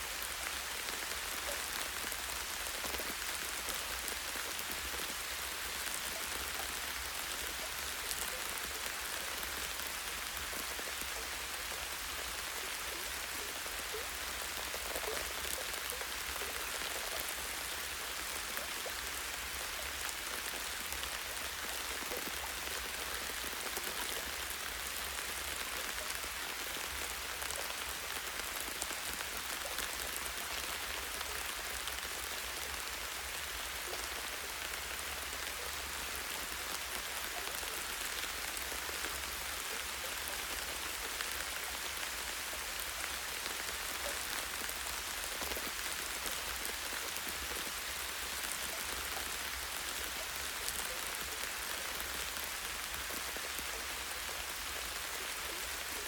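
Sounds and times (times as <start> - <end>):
light rain pattering on leaves: 0.0 - 56.0.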